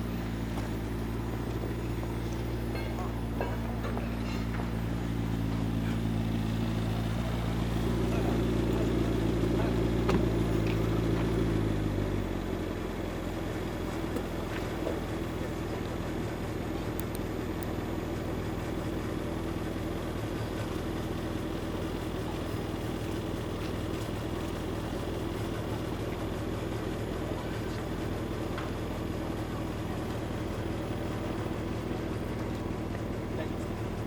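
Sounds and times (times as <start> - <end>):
sports car engine idling: 0.0 - 34.0.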